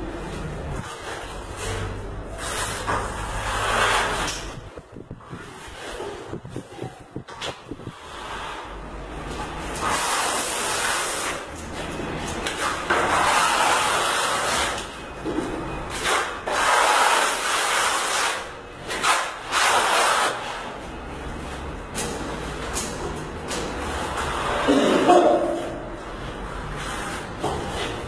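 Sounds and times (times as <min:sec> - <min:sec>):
tool scraping plaster on wall: 0:00.8 - 0:28.0.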